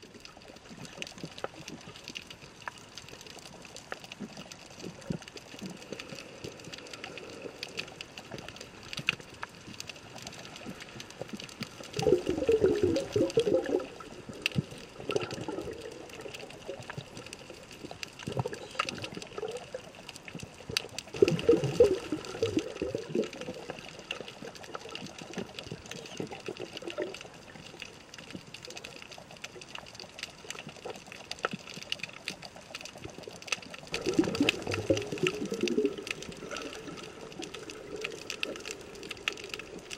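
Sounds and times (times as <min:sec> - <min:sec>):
gurgling bubbling water: 0:00.0 - 0:39.9
underwater water wash: 0:00.0 - 0:39.9
faint clicks: 0:00.1 - 0:39.9.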